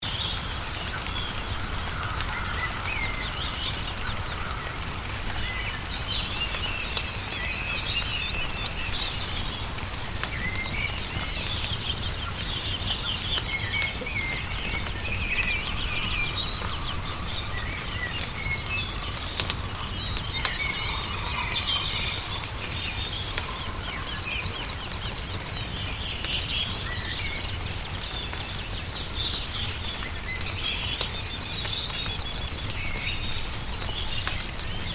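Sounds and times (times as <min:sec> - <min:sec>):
songbirds chirping and trilling: 0:00.0 - 0:34.9
wood fire crackling and popping: 0:00.0 - 0:34.9.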